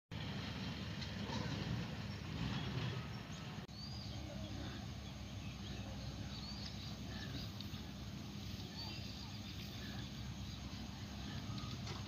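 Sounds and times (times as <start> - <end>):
steady low rumble: 0.1 - 12.0.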